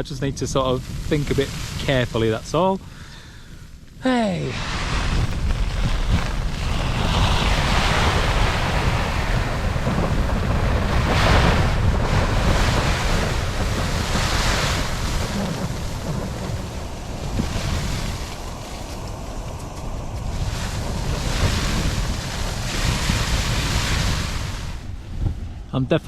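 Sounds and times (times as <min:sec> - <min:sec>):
wind gusting against a tent: 0:00.0 - 0:26.0.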